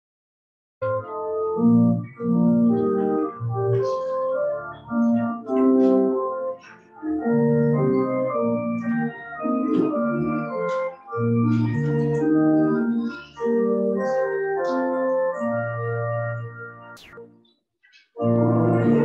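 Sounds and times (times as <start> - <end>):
church organ playing a hymn: 0.8 - 17.0, 18.2 - 19.0.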